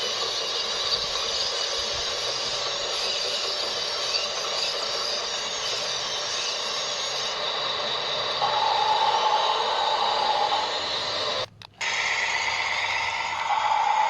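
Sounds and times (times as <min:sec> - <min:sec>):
small electric motors whirring: 0:00.0 - 0:14.0
steady motor whine: 0:00.0 - 0:14.0.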